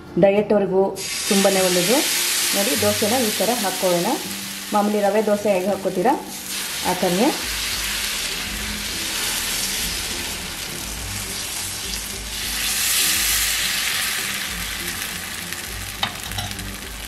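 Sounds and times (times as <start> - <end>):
batter sizzling on hot pan: 1.0 - 17.0.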